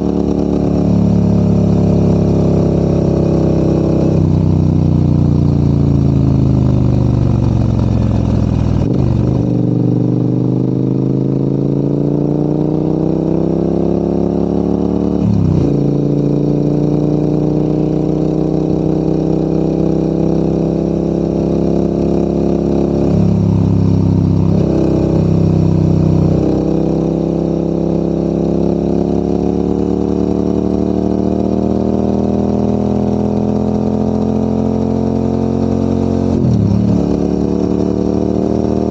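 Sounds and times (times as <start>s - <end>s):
motorcycle engine pulling uphill: 0.0s - 38.9s.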